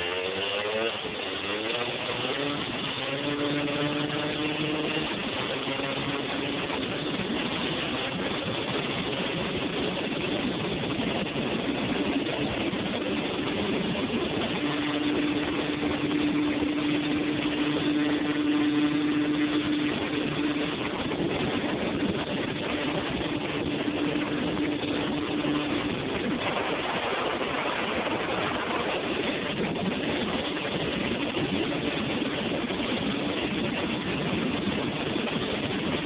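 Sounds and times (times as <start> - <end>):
quad bike engine running: 0.0 - 36.0.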